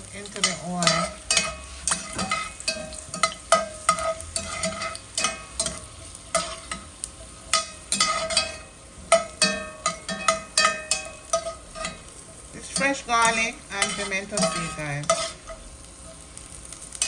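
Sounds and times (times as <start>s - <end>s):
garlic sizzling in hot oil: 0.0s - 17.0s
utensil clinking and scraping pot: 0.2s - 16.2s.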